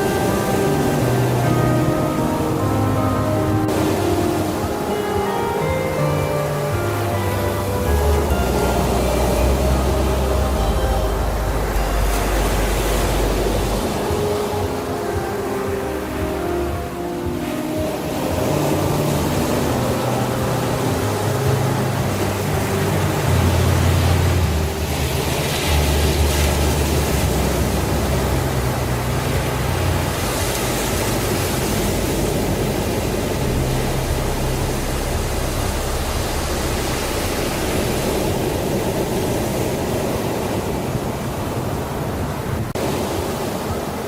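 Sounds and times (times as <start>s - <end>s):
ambient background music: 0.0s - 44.0s.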